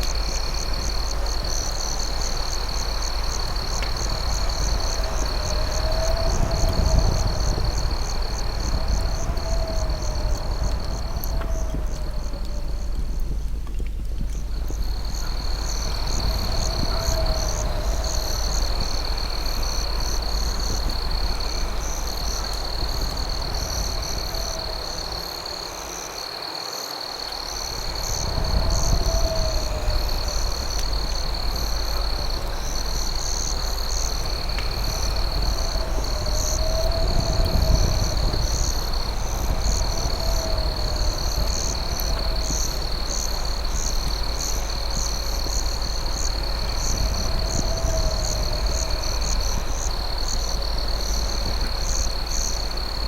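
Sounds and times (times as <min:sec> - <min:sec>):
low steady rumble: 0:00.0 - 0:26.1, 0:27.4 - 0:53.0
crickets trilling: 0:00.0 - 0:53.0
low wavering insect call: 0:00.0 - 0:53.0.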